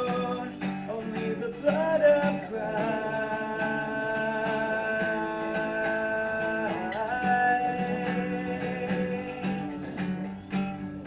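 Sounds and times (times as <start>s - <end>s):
person singing worship song: 0.0s - 10.3s
acoustic guitar strumming: 0.0s - 11.0s.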